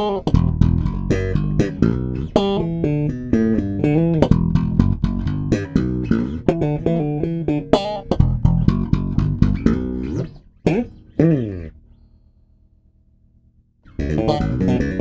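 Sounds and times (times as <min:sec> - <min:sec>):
electric bass plucked notes: 0:00.0 - 0:12.1, 0:13.9 - 0:15.0.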